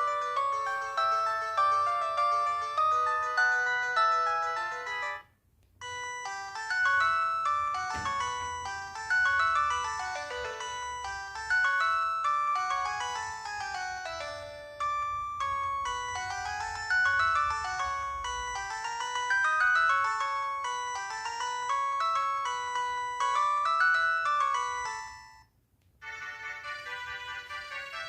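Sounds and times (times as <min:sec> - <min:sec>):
polyphonic ringtone melody: 0:00.0 - 0:28.0.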